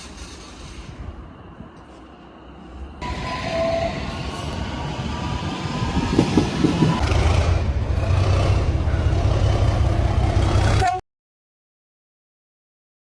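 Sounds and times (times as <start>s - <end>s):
train passing: 0.0s - 10.9s.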